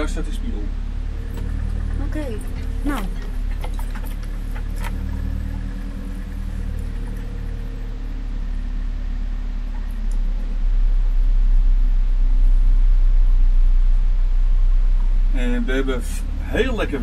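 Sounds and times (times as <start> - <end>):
deep low rumble: 0.0 - 17.0
road noise: 0.0 - 17.0
vehicle engine hum: 0.0 - 17.0.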